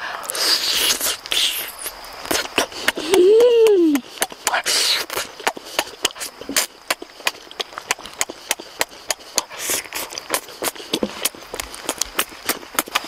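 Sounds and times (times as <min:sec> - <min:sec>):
sucking slurp: 0:00.0 - 0:03.2, 0:04.0 - 0:13.0
wet chewing and lip-smacking: 0:00.3 - 0:13.0.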